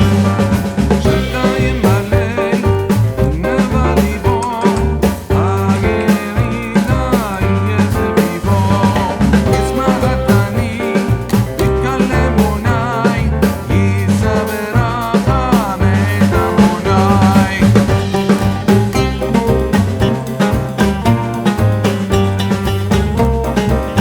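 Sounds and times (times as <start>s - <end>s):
steady drum beat: 0.0s - 24.0s
walking bass line: 0.0s - 24.0s.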